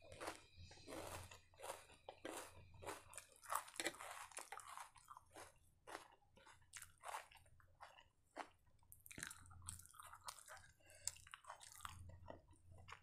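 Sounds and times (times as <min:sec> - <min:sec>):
person chewing and crunching food: 0:00.0 - 0:13.0.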